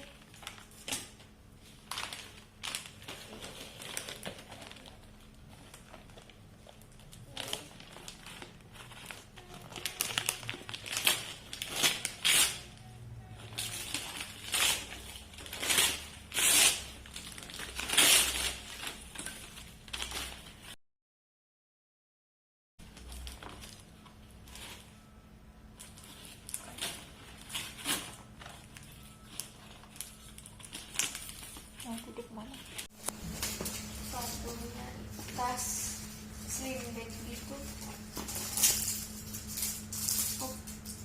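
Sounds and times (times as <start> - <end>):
gift wrapping crumpled and torn: 0.0 - 20.8, 22.9 - 25.2, 25.8 - 41.0.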